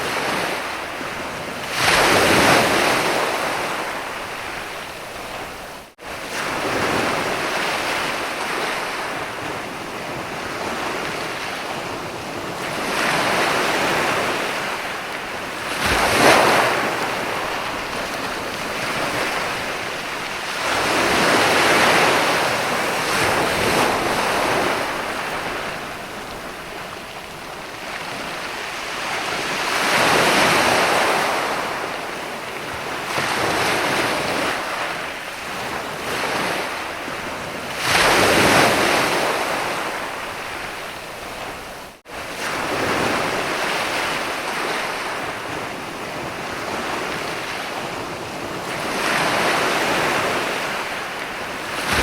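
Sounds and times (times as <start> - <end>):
ocean waves breaking on beach: 0.0 - 52.0.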